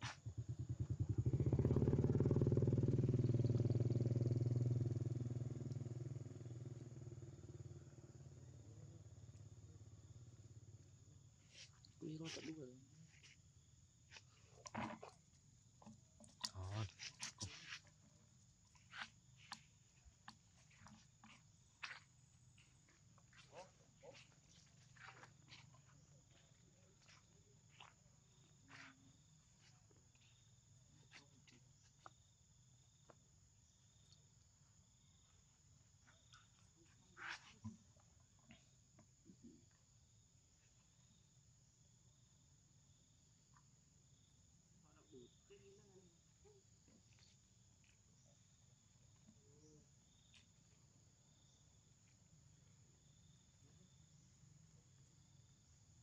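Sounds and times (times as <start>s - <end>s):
on-off insect tone: 0.2s - 56.0s.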